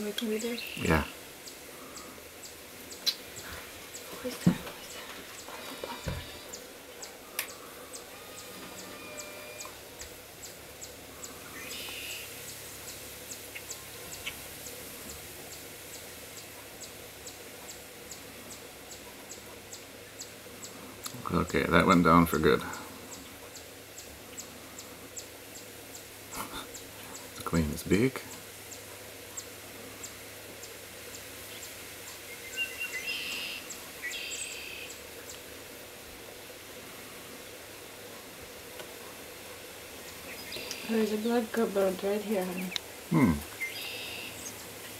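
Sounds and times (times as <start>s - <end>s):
outdoor background hiss: 0.0s - 44.9s
small birds chirping: 0.0s - 44.9s.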